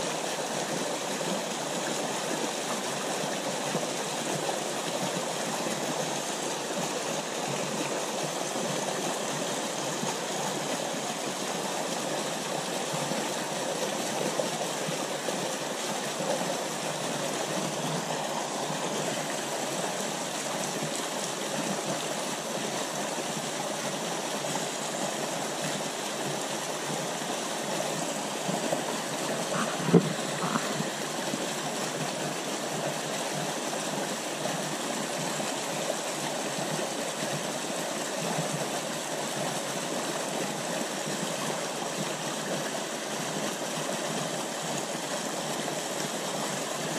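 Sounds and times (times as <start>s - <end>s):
stream rushing over rocks: 0.0s - 46.9s.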